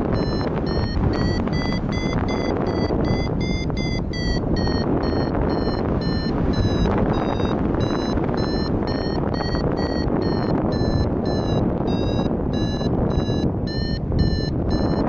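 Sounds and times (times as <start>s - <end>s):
variometer beeping: 0.0s - 15.0s
wind on microphone: 0.0s - 15.0s.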